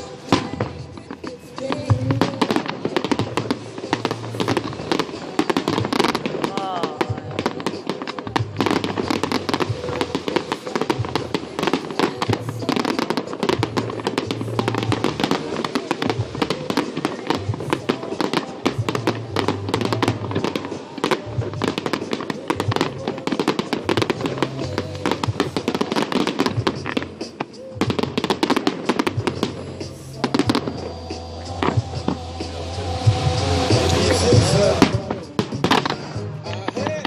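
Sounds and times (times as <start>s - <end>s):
fireworks crackling and popping: 0.0s - 37.0s
music playing: 0.0s - 37.0s.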